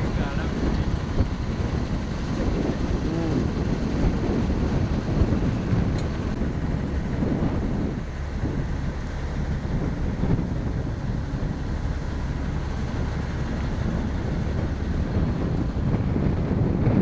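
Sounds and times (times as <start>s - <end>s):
diesel coach engine rumble: 0.0s - 17.0s
wind noise on microphone: 0.0s - 17.0s.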